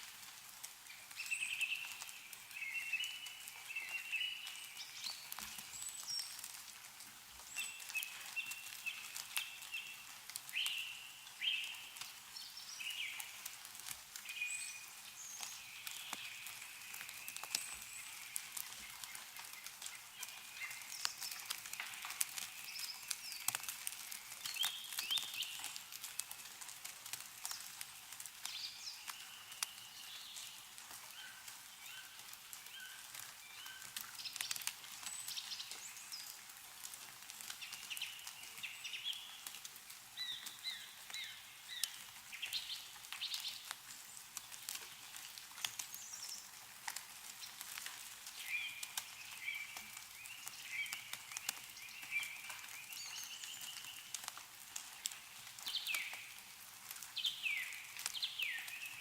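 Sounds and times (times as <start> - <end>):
meltwater dripping from trees: 0.0 - 59.0
small birds chirping: 0.7 - 59.0.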